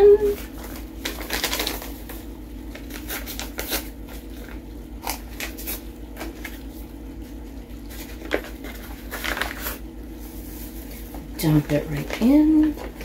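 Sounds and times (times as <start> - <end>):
paper packet tearing and rustling: 0.4 - 11.1.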